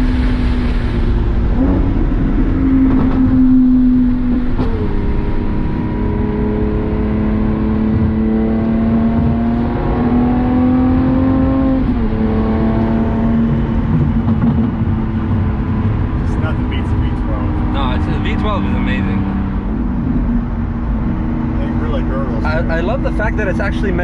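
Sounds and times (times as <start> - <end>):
car engine under load: 0.0 - 24.0.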